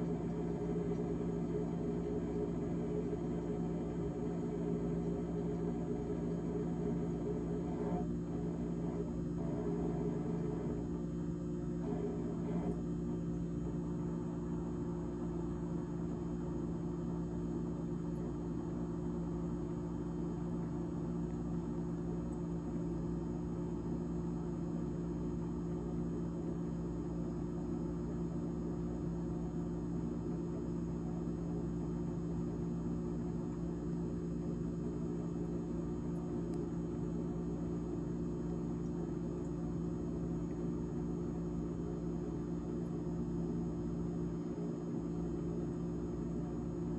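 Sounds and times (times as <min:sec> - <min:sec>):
refrigerator fan hum: 0:00.0 - 0:46.9.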